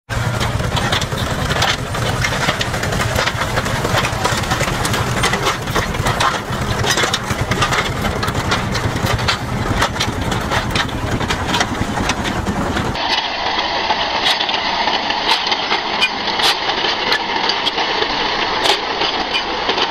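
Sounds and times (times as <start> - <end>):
tractor engine running: 0.0 - 19.9
metallic clanks from wheel frames: 0.1 - 19.9.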